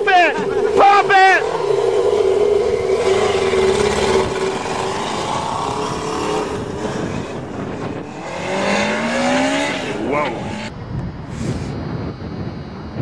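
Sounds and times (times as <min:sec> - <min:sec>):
motorcycle engine at high revs: 0:00.3 - 0:10.8.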